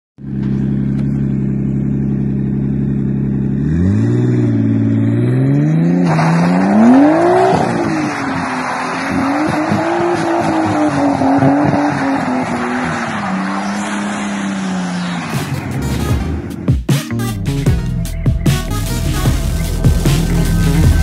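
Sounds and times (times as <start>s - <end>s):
car engine idling and revving: 0.2s - 21.0s.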